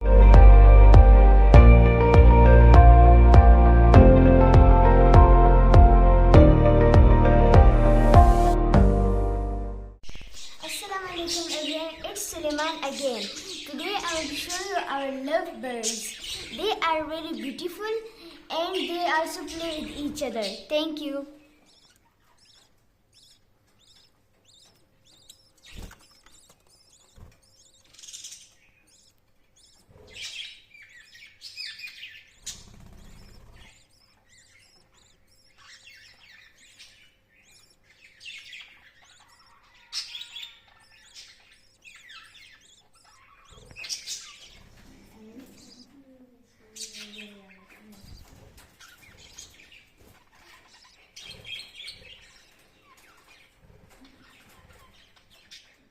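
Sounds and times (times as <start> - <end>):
lovebirds chirping: 0.0 - 55.9.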